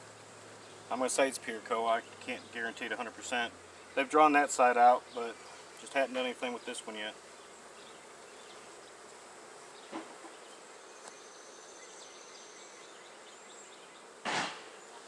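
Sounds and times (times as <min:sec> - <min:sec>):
bees humming: 0:00.0 - 0:15.0.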